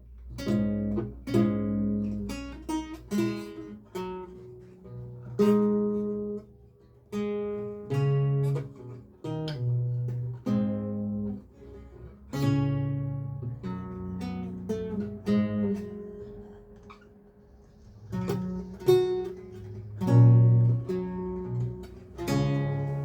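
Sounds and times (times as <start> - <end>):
solo lute playing: 0.0 - 23.0.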